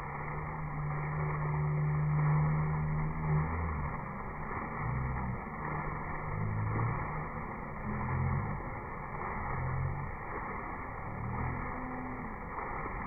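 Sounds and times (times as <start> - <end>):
low hum: 0.0 - 13.0
water pouring and splashing: 0.0 - 13.0.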